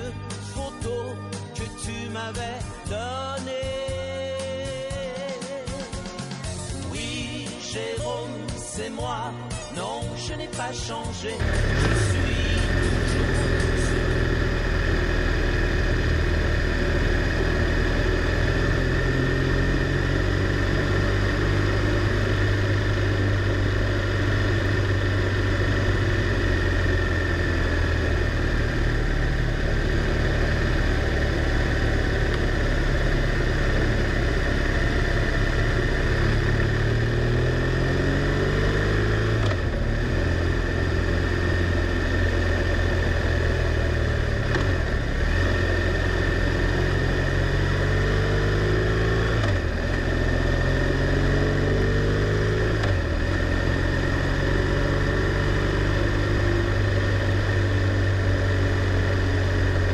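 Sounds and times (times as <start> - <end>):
motorcycle engine running: 11.3 - 59.9
road noise: 11.4 - 59.9.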